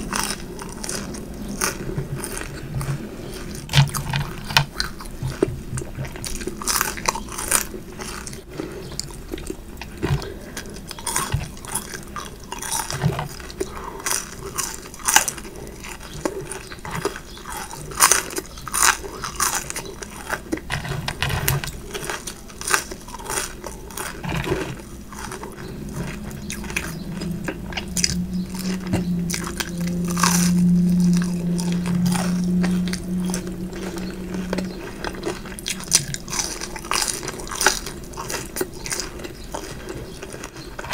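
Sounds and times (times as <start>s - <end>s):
crunchy chewing: 0.0s - 40.9s
steady low hum: 0.0s - 40.9s.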